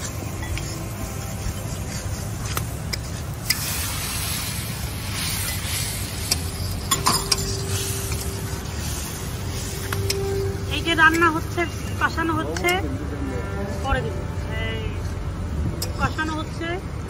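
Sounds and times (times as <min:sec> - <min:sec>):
onion masala sizzling: 0:00.0 - 0:17.0
steady low rumble: 0:00.0 - 0:17.0.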